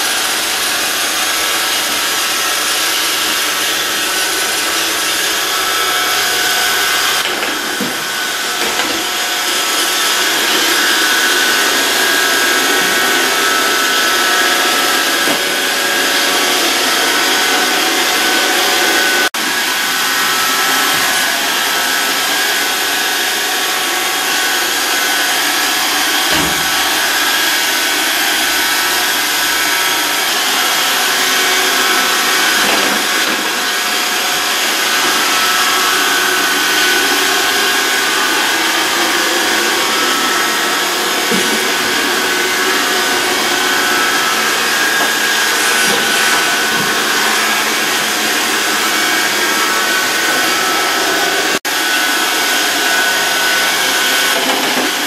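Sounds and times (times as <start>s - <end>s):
robot vacuum whirring: 0.1s - 55.0s.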